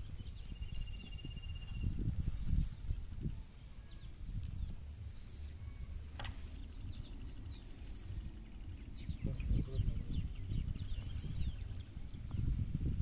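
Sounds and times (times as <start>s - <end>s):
bird chirps: 0.0s - 12.6s
low steady rumble: 0.0s - 13.0s.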